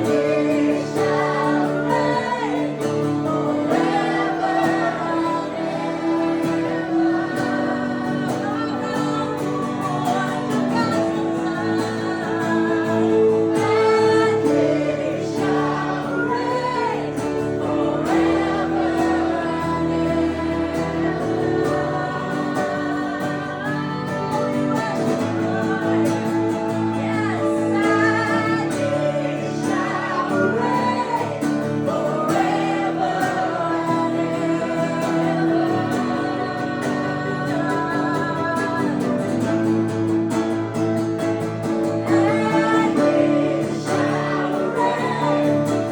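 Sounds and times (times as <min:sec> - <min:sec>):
acoustic guitar chords: 0:00.0 - 0:45.9
people singing worship music: 0:00.0 - 0:45.9.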